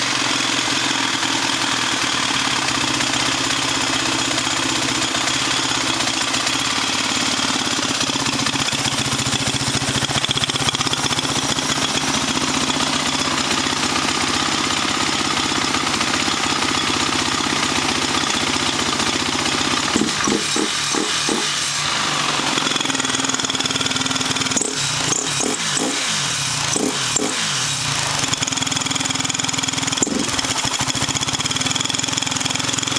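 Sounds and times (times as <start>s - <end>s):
quad engine idling: 0.0s - 32.9s.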